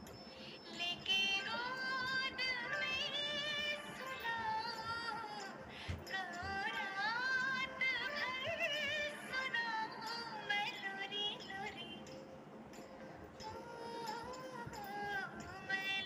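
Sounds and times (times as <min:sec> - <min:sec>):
woman singing ornamented melody: 0:00.0 - 0:16.0.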